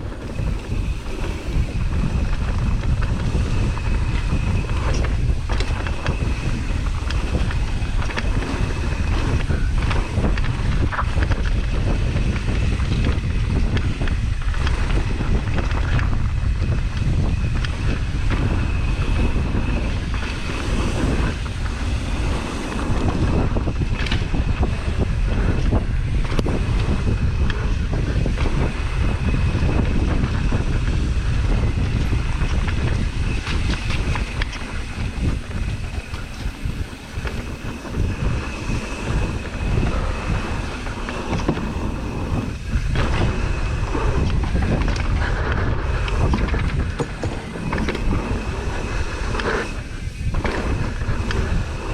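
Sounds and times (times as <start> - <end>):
mountain bike rattling over trail: 0.0 - 51.9
thin high whine: 0.0 - 51.9
wind buffeting the microphone: 0.0 - 51.9.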